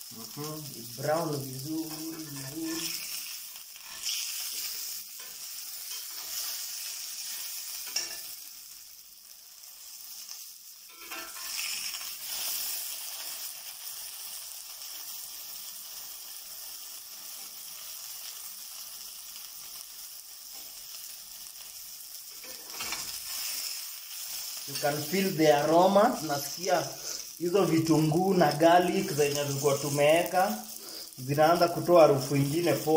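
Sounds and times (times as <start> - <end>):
burger patty sizzling in a pan: 0.0 - 32.9.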